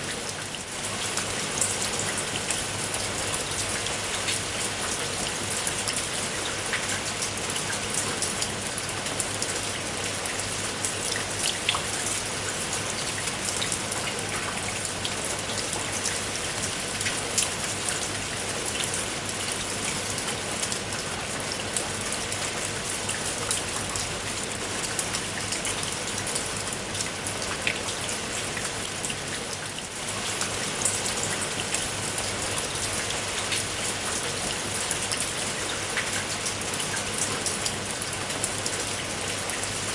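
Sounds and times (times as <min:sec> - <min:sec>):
rain patter on a surface: 0:00.0 - 0:39.9.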